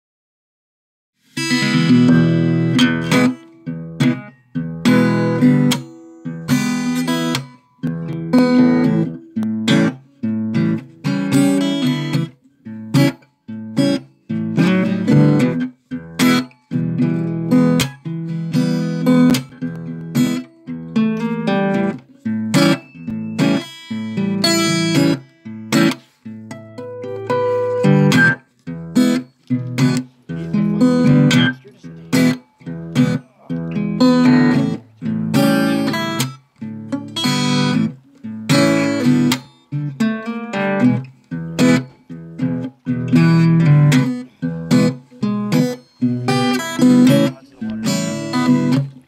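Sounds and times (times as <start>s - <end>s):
acoustic guitar strumming: 1.2s - 49.0s.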